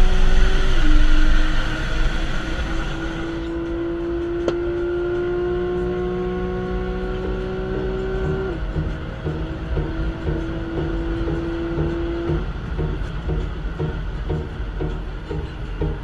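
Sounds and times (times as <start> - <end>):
car engine drone in cabin: 0.0 - 16.0
road and wind noise: 0.0 - 16.0.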